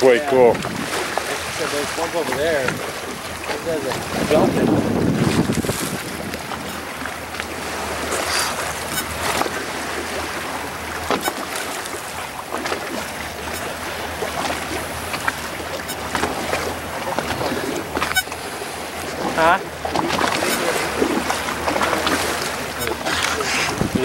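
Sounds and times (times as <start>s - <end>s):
boat engine humming: 0.0s - 24.0s
water washing against hull: 0.0s - 24.0s.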